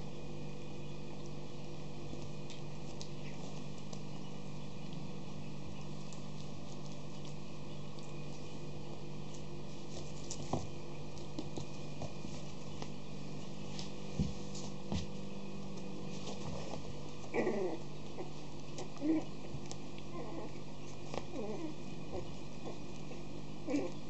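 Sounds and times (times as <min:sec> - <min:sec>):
steady low hum: 0:00.0 - 0:24.0
puppy paws pattering on floor: 0:00.9 - 0:24.0.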